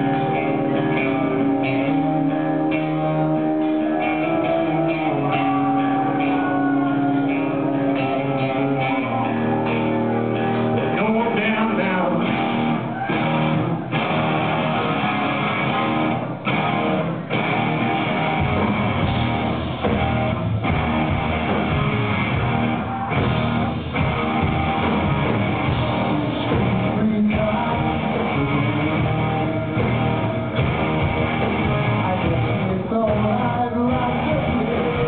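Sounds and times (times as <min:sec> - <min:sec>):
bass guitar: 0:00.0 - 0:35.0
drums: 0:00.0 - 0:35.0
electric guitars: 0:00.0 - 0:35.0.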